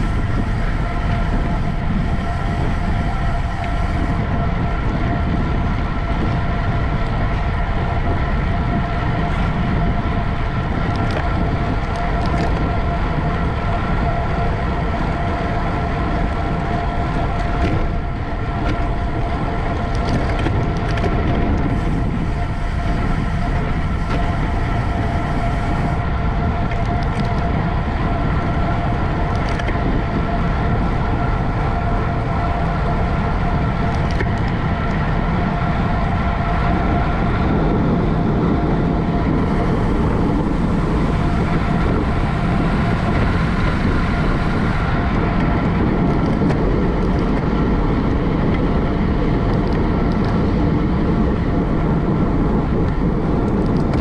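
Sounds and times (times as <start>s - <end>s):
bicycle road rumble: 0.0s - 54.0s
steady whir: 0.0s - 54.0s
wind rushing over microphone: 0.0s - 54.0s.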